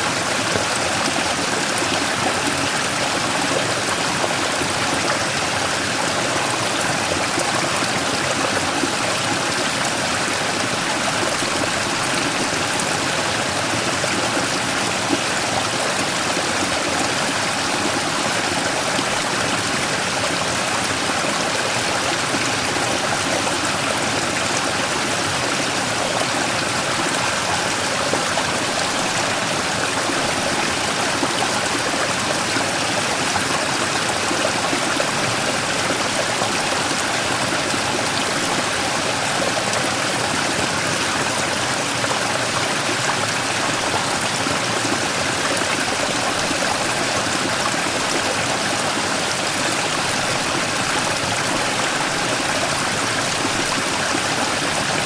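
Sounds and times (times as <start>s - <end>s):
stream rushing over rock: 0.0s - 55.0s.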